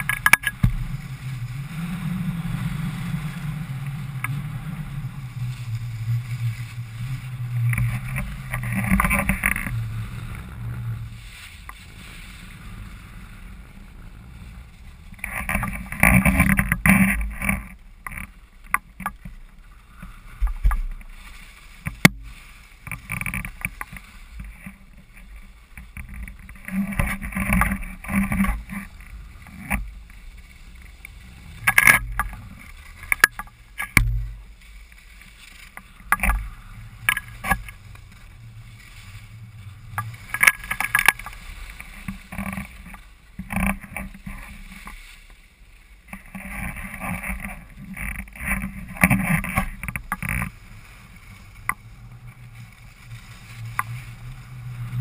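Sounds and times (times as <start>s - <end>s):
low rumble: 0.0s - 55.0s
skis scraping over snow: 0.0s - 55.0s.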